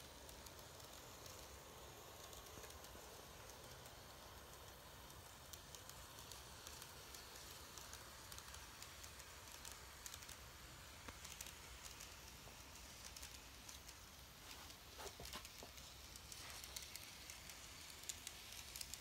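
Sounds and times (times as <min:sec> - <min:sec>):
model train wheels clicking on rails: 0:00.0 - 0:19.0.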